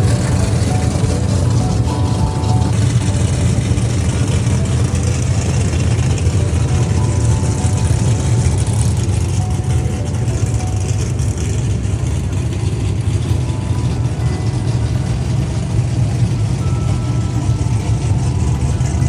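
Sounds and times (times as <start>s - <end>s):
race car engines rumbling: 0.0s - 19.0s.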